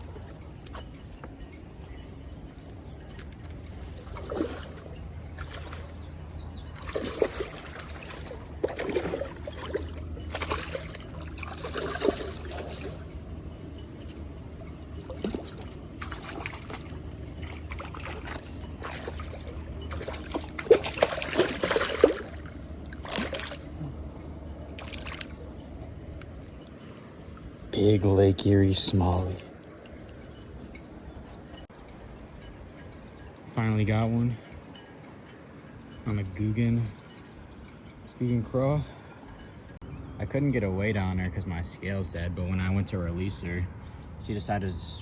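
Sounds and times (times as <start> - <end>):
water splashing and trickling: 0.0 - 39.8.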